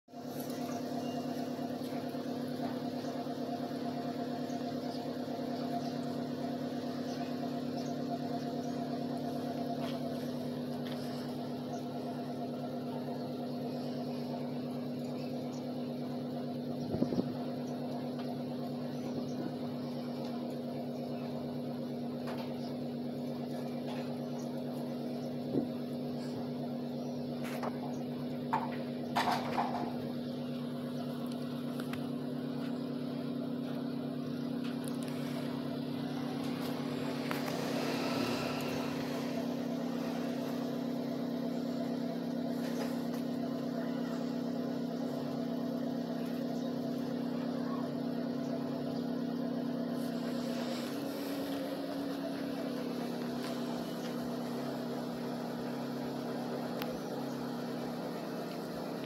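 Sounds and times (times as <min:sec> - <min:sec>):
motor humming: 0:00.1 - 0:59.0.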